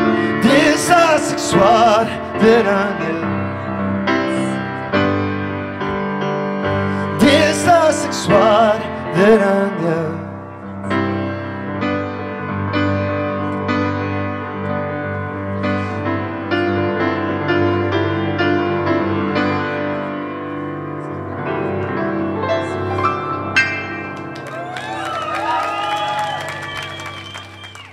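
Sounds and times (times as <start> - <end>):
solo grand piano: 0.0 - 27.9.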